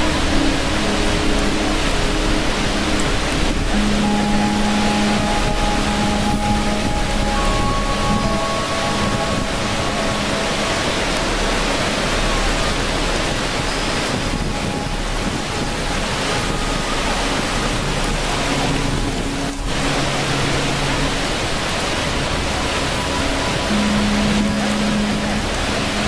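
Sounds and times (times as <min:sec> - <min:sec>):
falling water rushing: 0:00.0 - 0:26.0.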